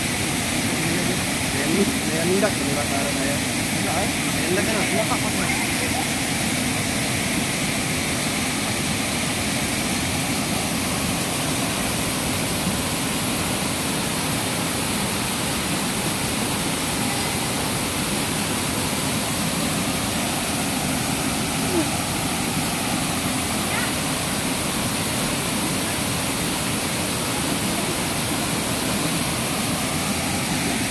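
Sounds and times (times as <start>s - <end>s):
waterfall and rushing river: 0.0s - 30.9s.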